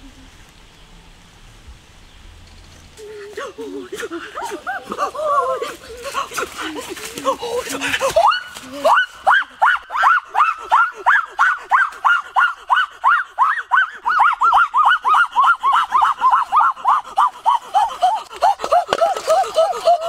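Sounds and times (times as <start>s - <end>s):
person yelping: 3.0s - 20.0s.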